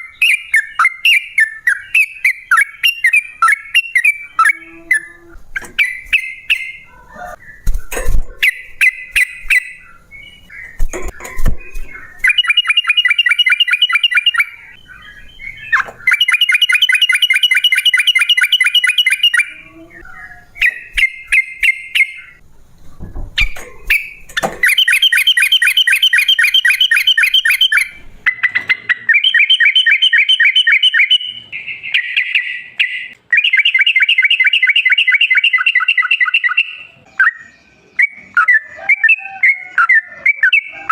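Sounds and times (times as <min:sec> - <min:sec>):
bulbul singing: 0:00.0 - 0:22.4, 0:23.4 - 0:40.9.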